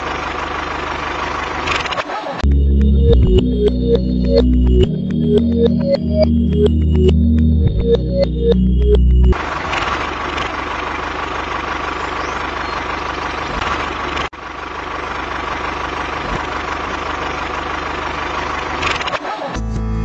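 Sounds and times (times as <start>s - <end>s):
tractor engine running: 0.0s - 19.2s.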